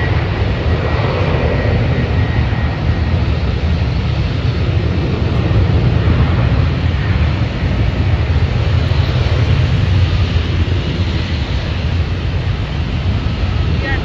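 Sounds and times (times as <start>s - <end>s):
jet engine noise: 0.0s - 14.0s
wind rumble on microphone: 0.0s - 14.0s.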